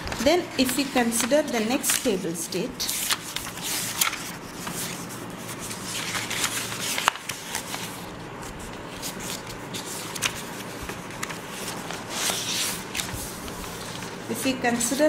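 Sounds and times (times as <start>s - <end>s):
paper rustling and flipping: 0.0s - 2.2s, 2.8s - 15.0s.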